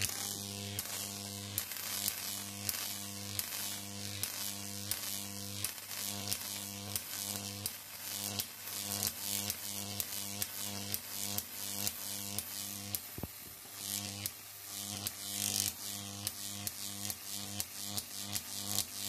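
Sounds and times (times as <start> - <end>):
electric arc buzzing and hissing: 0.0 - 19.0
sharp electric arc snap: 0.0 - 19.0.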